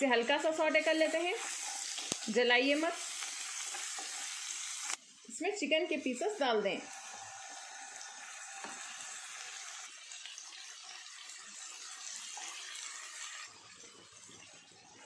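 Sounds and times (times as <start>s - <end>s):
chicken sizzling in oil: 0.0s - 5.4s, 6.0s - 14.6s.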